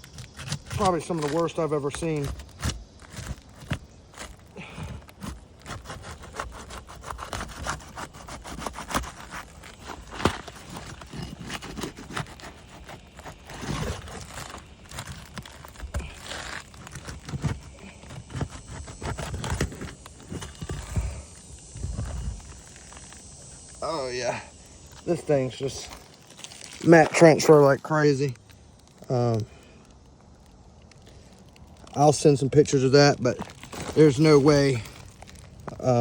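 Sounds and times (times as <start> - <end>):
roof shingle scraping and crackling: 0.0 - 36.0.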